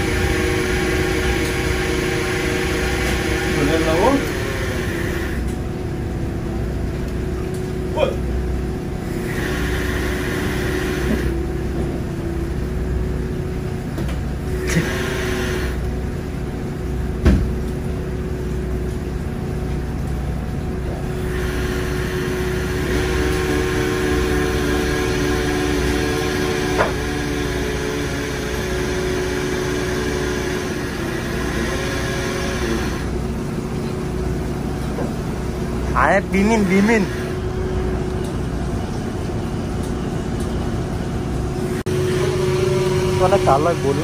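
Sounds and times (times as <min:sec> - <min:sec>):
machinery humming: 0:00.0 - 0:44.0.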